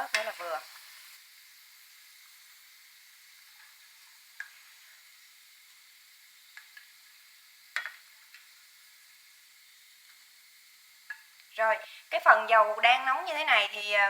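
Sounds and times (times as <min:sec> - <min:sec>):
pasta sizzling in hot oil: 0:00.0 - 0:14.0.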